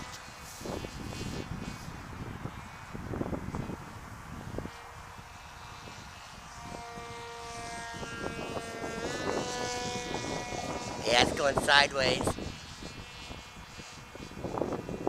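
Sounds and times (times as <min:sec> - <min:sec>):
model plane electric motor whining: 0:00.0 - 0:15.0
wind buffeting microphone: 0:00.0 - 0:15.0.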